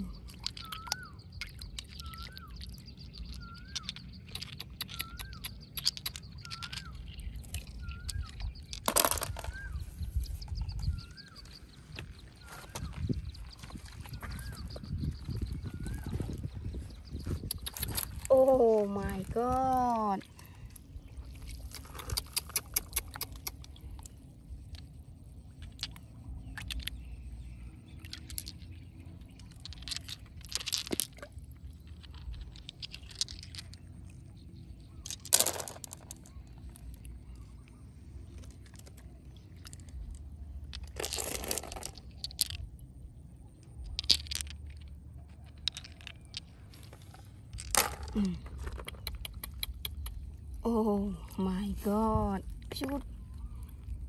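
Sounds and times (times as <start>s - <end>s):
low steady rumble: 0.0s - 54.0s.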